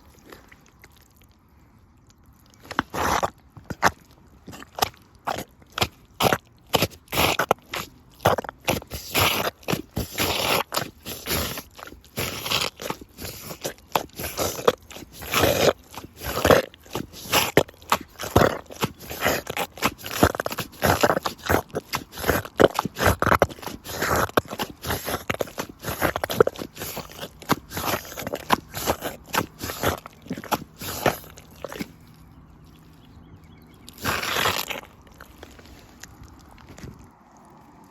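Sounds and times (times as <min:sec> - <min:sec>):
boots squelching in mud: 0:02.4 - 0:37.9.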